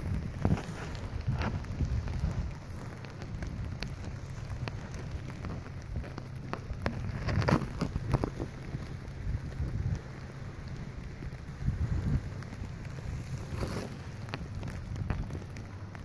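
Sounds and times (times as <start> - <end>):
rain on tent fabric: 0.0 - 16.0
surf rumble: 0.0 - 16.0.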